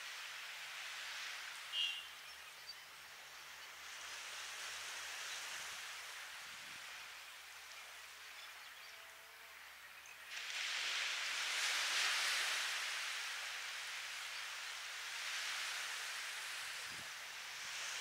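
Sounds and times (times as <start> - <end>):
waves lapping on sand: 0.0 - 2.2, 3.0 - 18.0.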